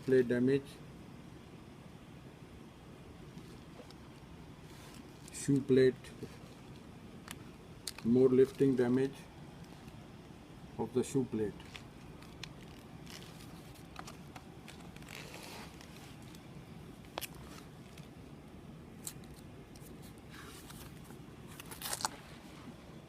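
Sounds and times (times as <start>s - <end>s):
faint room hum: 0.0s - 23.0s.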